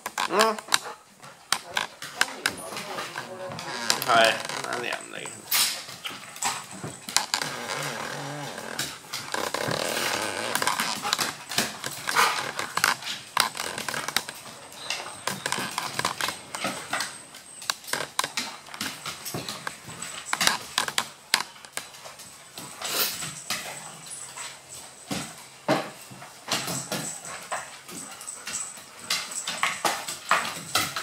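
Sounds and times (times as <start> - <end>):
dogs growling: 0.0 - 25.0
claws scrabbling on wooden floor: 0.0 - 31.0.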